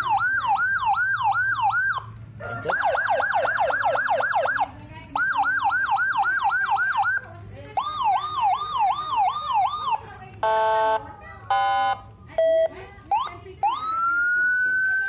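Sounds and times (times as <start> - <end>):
electronic siren wailing: 0.0 - 7.2, 7.8 - 12.0, 13.2 - 15.0.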